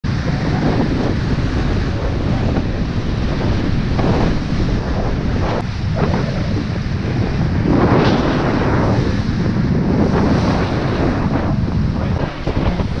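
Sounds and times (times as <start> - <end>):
bow wave rushing along hull: 0.0 - 13.0
wind buffeting microphone: 0.0 - 13.0.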